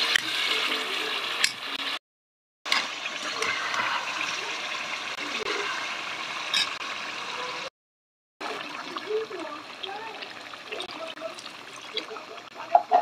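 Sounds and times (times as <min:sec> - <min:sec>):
food sizzling in hot oil: 0:00.0 - 0:02.0, 0:02.7 - 0:07.7, 0:08.4 - 0:13.0.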